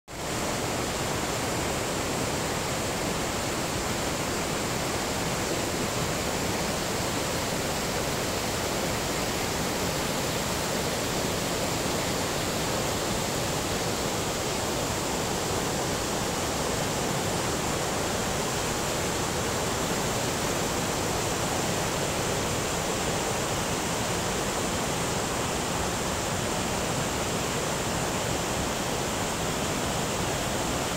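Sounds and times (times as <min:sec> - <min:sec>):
stream rushing over rocks: 0:00.1 - 0:30.9.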